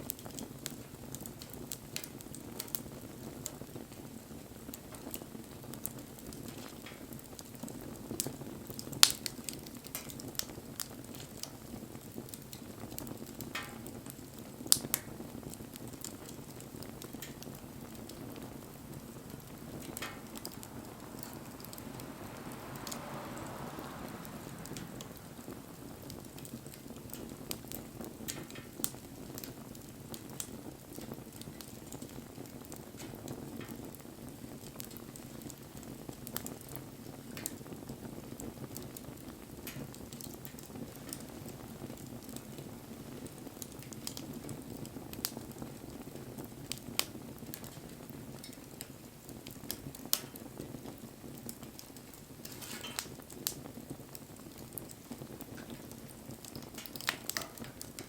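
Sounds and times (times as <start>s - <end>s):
campfire burning and crackling: 0.0s - 58.0s.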